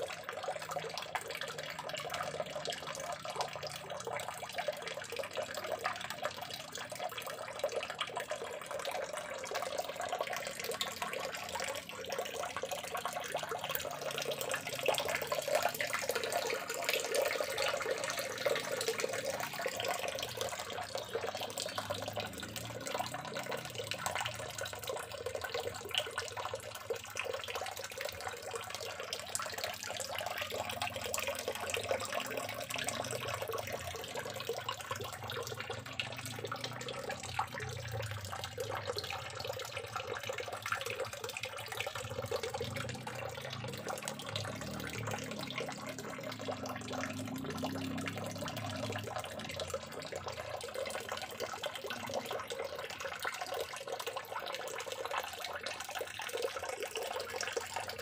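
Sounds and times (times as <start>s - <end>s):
water stream pouring into tank: 0.0s - 58.0s.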